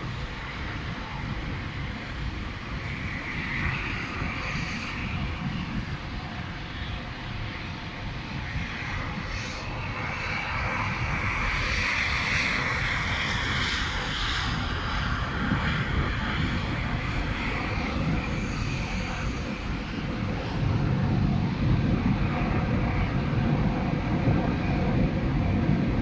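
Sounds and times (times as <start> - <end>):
gusting wind buffeting microphone: 0.0 - 26.0.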